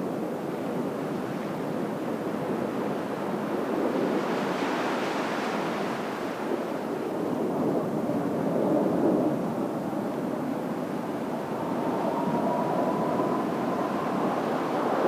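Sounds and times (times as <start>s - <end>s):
wind noise on microphone: 0.0s - 15.0s
surf washing on shore: 0.4s - 15.0s.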